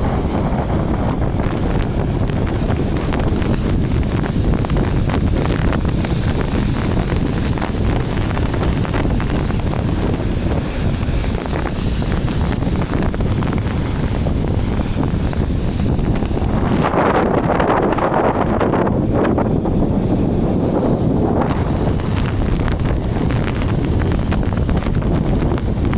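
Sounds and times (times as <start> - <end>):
sea surf breaking: 0.0 - 25.9
wind buffeting microphone: 0.0 - 25.9.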